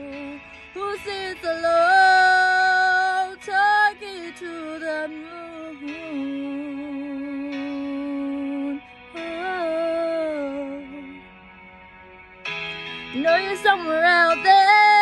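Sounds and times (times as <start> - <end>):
woman singing unaccompanied: 0.0 - 11.1, 13.2 - 15.0.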